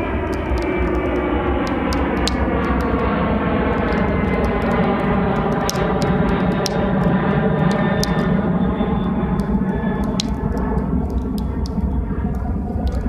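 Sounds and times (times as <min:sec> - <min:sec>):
crackling campfire pops: 0:00.0 - 0:13.0
low-flying jet aircraft drone: 0:00.0 - 0:13.0.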